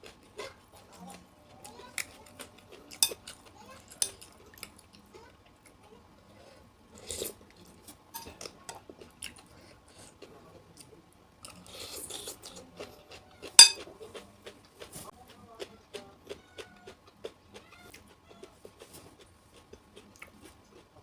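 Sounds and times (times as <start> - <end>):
chewing and crunching vegetables: 0.0 - 21.0.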